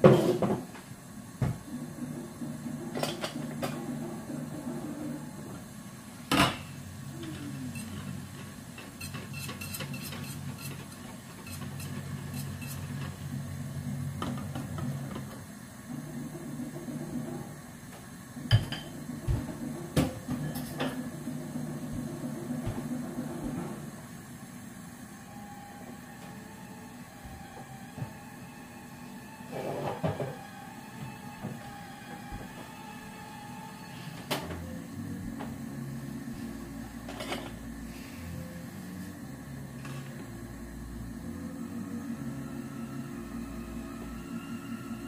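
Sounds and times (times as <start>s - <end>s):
steady low hum: 0.0s - 25.5s, 33.8s - 45.0s.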